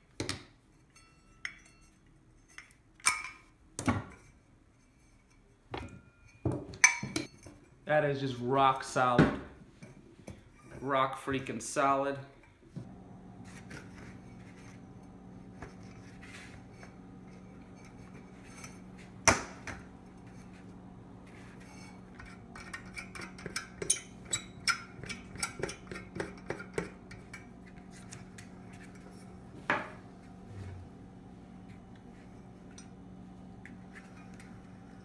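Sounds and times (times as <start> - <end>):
steady low hum: 4.1 - 35.0.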